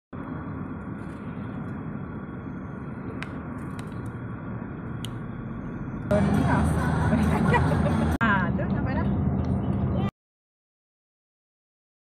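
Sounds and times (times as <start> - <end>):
car road and engine noise: 0.1 - 10.1.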